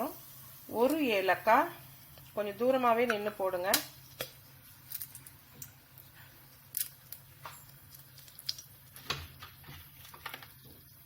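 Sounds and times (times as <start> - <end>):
spices popping in hot oil: 0.0 - 11.0.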